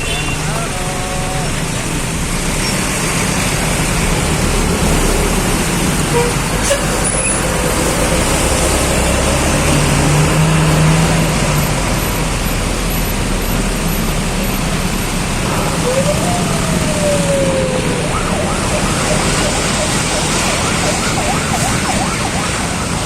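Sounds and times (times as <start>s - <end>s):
road traffic rushing: 0.0s - 23.0s
wind: 0.0s - 23.0s.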